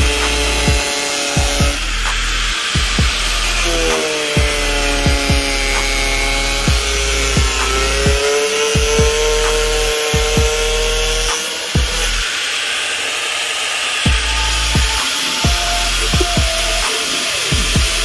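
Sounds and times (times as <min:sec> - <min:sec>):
music with thumping beat: 0:00.0 - 0:12.2, 0:14.1 - 0:18.0
angle grinder cutting pipe: 0:00.0 - 0:18.0.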